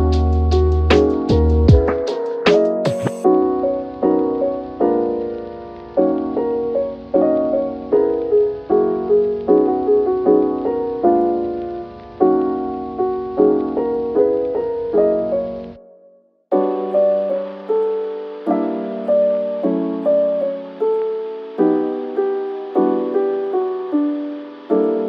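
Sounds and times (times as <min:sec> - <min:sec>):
soft piano chords: 0:00.0 - 0:25.0.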